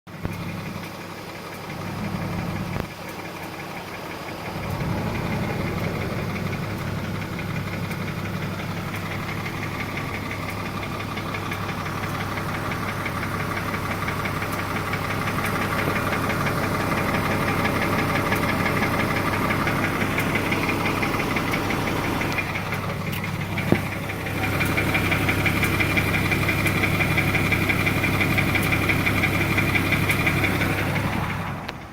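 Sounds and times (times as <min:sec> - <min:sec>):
car engine running: 0:00.1 - 0:31.9
rapid engine ticking: 0:00.1 - 0:31.9.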